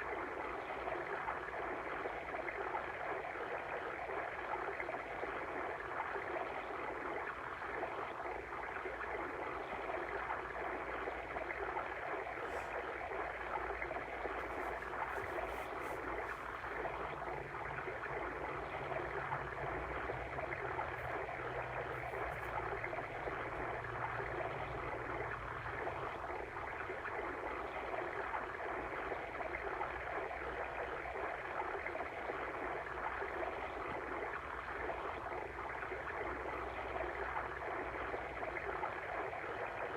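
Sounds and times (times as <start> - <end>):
water stream babbling: 0.0 - 39.9.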